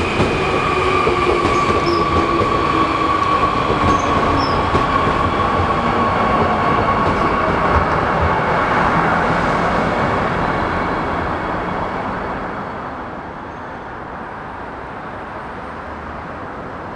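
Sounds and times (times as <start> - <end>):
subway train wheels on rail: 0.0 - 16.9.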